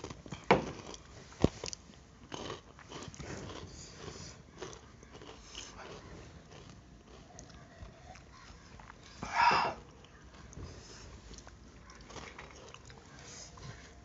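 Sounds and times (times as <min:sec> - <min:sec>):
snack crunching: 0:00.0 - 0:09.1, 0:09.8 - 0:13.1.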